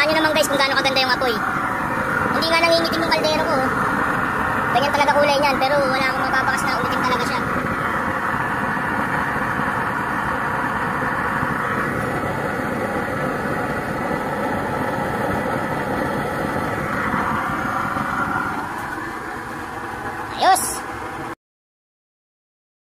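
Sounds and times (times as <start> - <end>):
oil burner stove rushing: 0.0 - 21.3.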